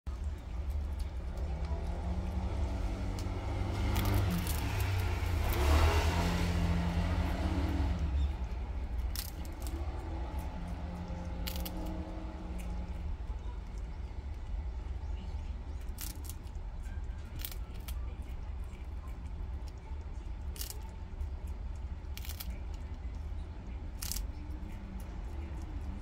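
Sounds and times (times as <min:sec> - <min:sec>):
animals crunching treats: 0:00.1 - 0:26.0
low humming motor rumble: 0:00.1 - 0:26.0.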